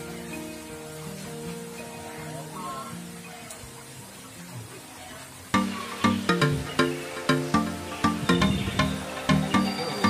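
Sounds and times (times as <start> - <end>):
background music melody: 0.0 - 10.0.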